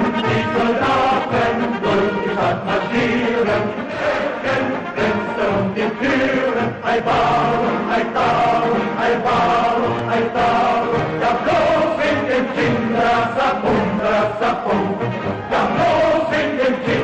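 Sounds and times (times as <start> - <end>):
choir chanting over a beat: 0.0 - 17.0.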